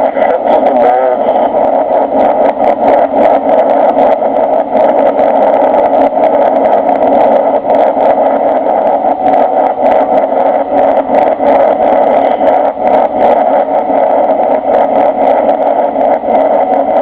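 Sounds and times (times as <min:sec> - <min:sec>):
aircraft engines and airflow drone: 0:00.0 - 0:17.0.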